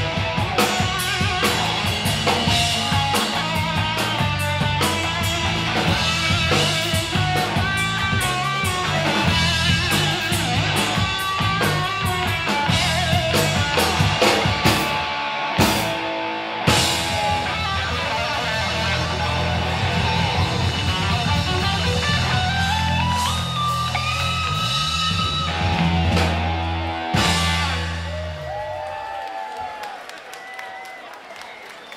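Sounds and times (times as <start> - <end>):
electric guitar lead line: 0.0 - 28.6
rock band playing: 0.0 - 29.1.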